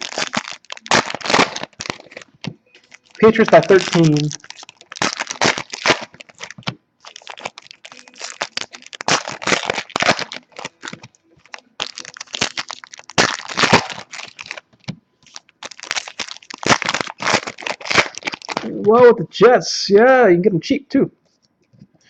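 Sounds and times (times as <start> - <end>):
card pack wrappers crinkling: 0.0 - 19.0.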